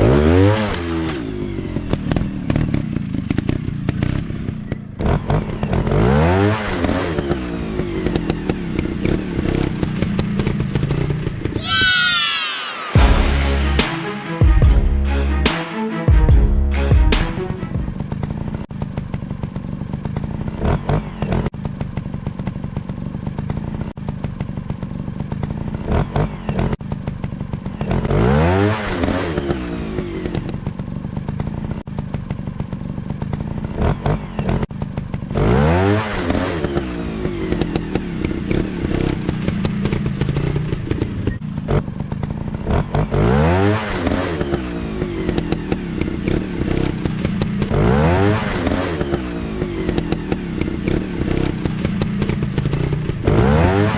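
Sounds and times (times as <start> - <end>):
dirt bike engines revving: 0.0 - 14.3, 17.2 - 31.7, 32.5 - 53.9.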